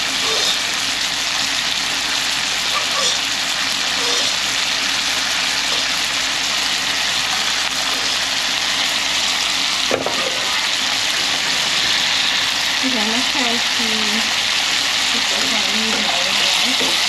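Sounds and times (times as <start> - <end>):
shrimp sizzling in a pot: 0.0 - 17.0.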